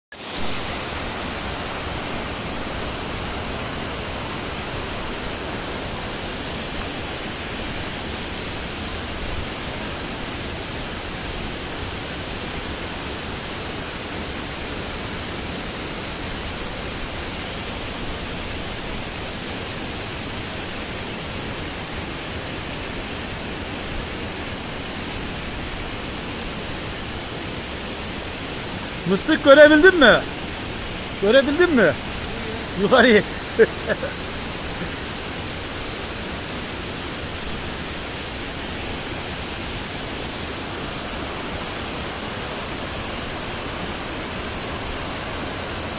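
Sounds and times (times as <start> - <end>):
waterfall pouring into river: 0.2 - 45.9.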